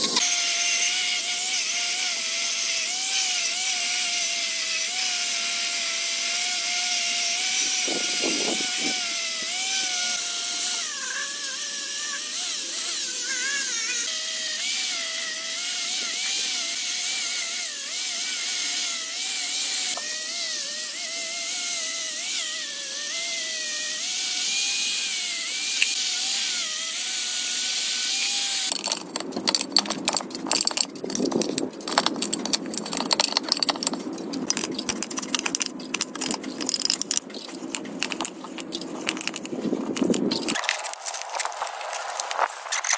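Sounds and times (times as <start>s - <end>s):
power tool motor whining: 0.0s - 42.9s.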